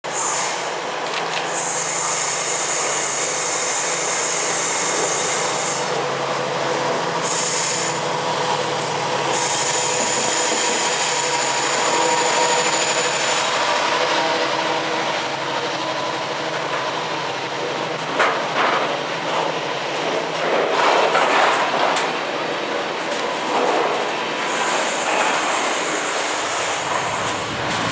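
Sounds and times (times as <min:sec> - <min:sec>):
diesel locomotive under power: 0:00.0 - 0:27.9
train wheels clattering on rails: 0:00.3 - 0:27.9.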